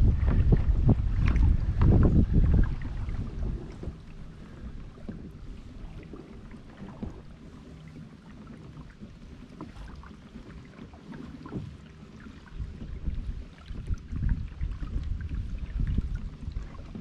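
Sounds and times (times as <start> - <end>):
low rumble of kayak on water: 0.0 - 17.0
knocks and clicks from hull: 0.1 - 15.1.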